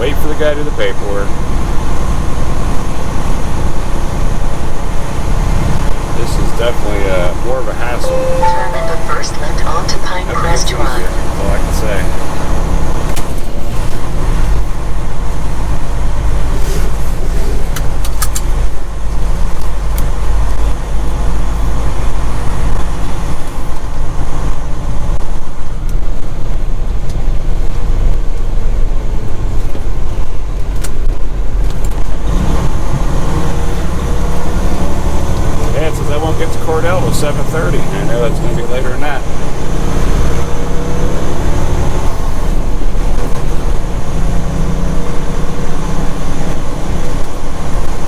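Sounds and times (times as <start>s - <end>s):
diesel engine drone: 0.0s - 48.0s
road noise: 0.0s - 48.0s.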